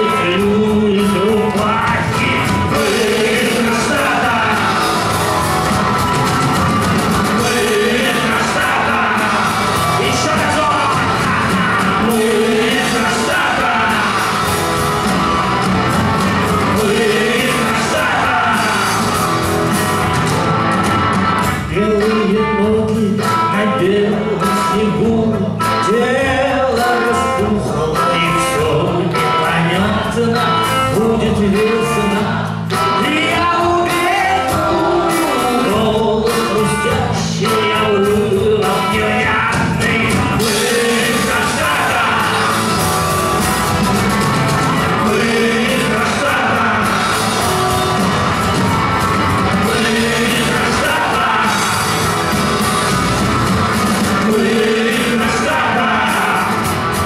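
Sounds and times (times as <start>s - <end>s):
loud shouted singing: 0.0s - 20.3s, 21.7s - 57.0s
rock band playing: 0.0s - 57.0s.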